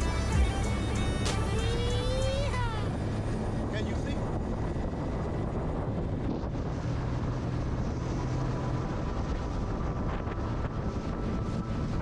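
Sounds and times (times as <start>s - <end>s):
motorboat engine drone: 0.0s - 12.0s
wind buffeting microphone: 2.0s - 12.0s.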